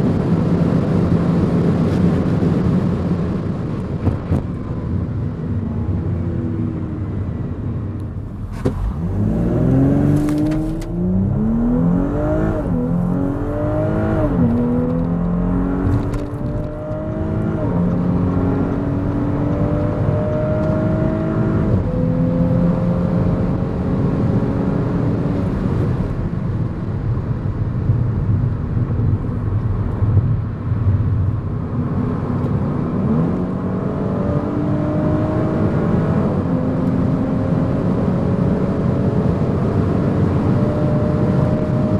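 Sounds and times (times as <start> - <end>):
car engine revving through gears: 0.0 - 26.2, 31.2 - 41.9
road noise: 0.0 - 41.9.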